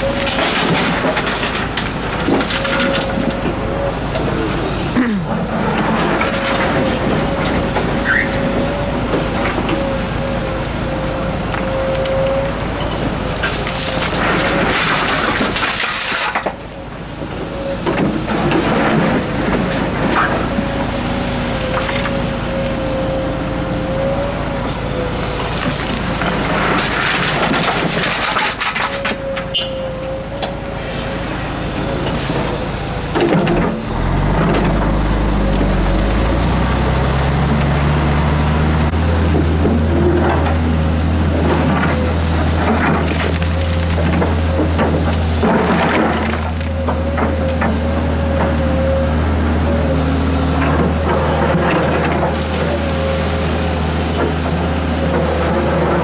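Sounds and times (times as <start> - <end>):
excavator engine and hydraulic whine: 0.0 - 56.0.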